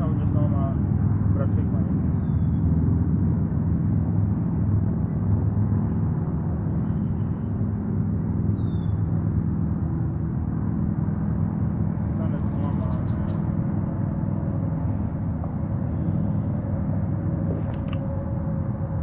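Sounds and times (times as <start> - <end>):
faint hum: 0.0 - 19.0
low rumble: 0.0 - 19.0.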